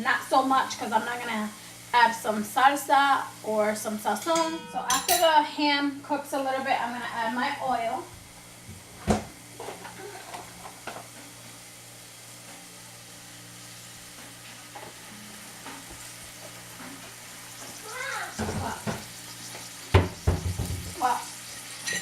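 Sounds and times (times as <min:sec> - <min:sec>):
ham sizzling in a frying pan: 0:00.0 - 0:22.0.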